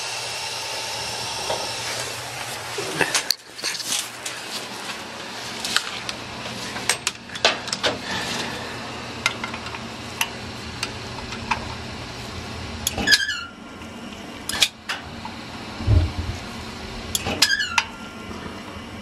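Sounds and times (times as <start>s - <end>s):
heating equipment humming: 0.0s - 19.0s.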